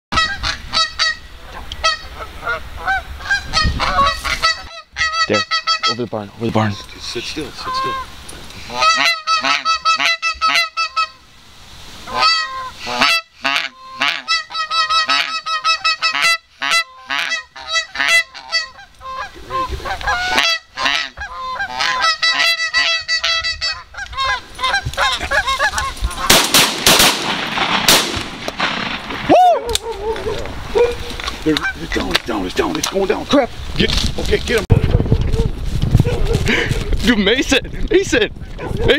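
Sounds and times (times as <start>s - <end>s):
geese honking and clucking: 0.1s - 11.3s, 12.0s - 33.5s.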